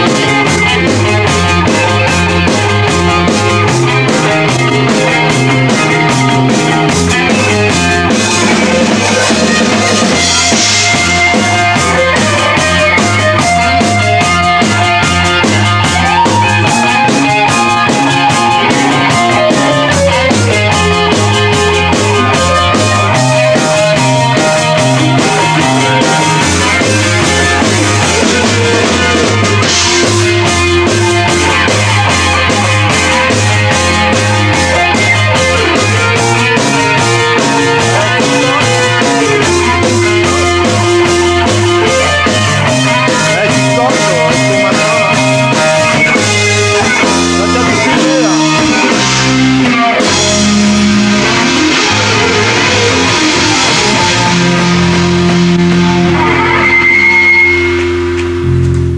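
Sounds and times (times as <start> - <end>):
lead guitar bending notes: 0.0 - 58.9
rock band playing: 0.0 - 58.9.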